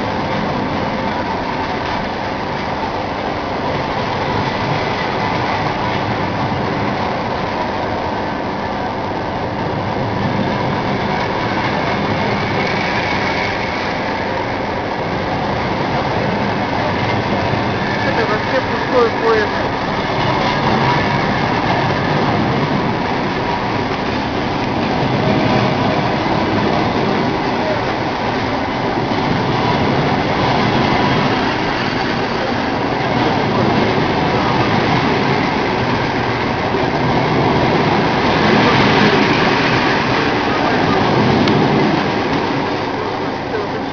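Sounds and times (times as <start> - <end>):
train carriages rumbling on rails: 0.0 - 43.9.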